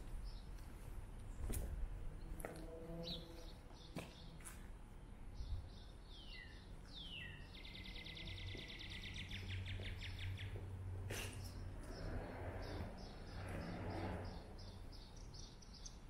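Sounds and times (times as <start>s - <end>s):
songbird singing: 0.0s - 1.5s, 2.2s - 16.0s.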